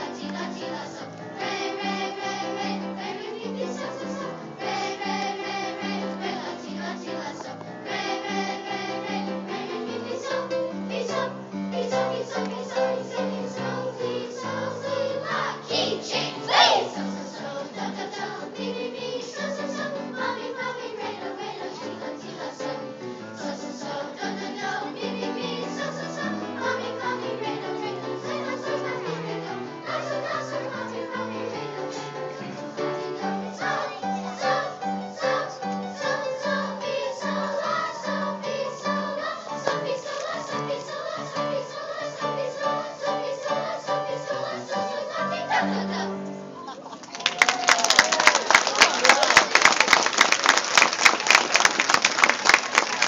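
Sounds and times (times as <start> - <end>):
children's choir singing: 0.0 - 46.9.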